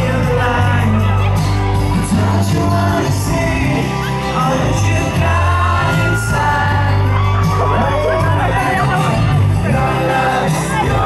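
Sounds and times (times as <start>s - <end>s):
amplified band playing: 0.0s - 11.0s
deep held bass notes: 0.0s - 11.0s
man singing into a microphone: 0.0s - 11.0s.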